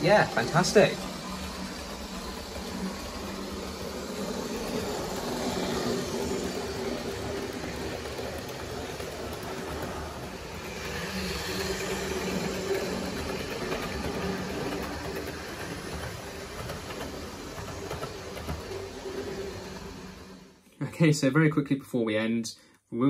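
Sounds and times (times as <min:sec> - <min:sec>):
model train motor hum: 0:00.0 - 0:20.6
wheels rolling on rails: 0:00.0 - 0:20.6.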